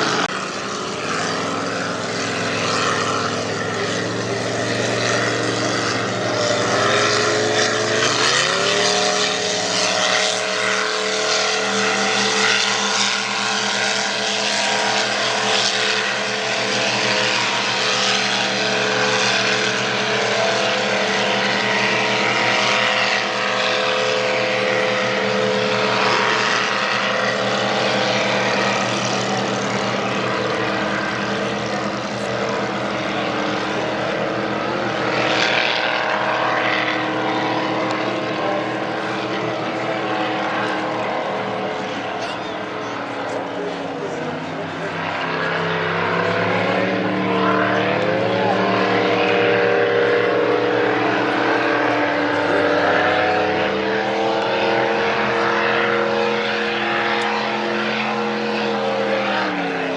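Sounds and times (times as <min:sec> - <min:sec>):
racing powerboat engines: 0:00.0 - 0:59.9.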